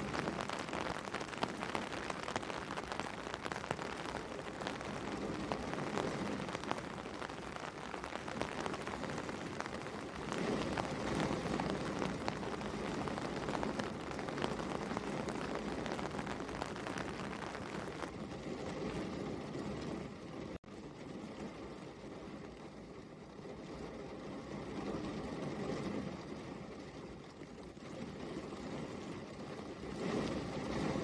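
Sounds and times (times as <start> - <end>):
rain drops pattering: 0.0 - 31.0.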